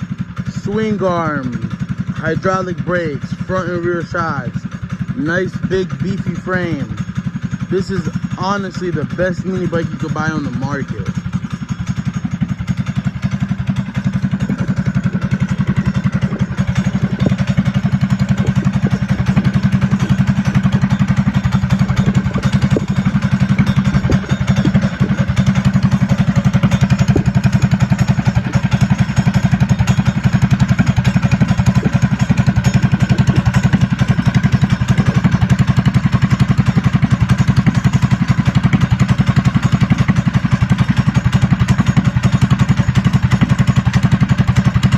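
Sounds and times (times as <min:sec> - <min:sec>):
mini bike engine idling: 0:00.0 - 0:44.9.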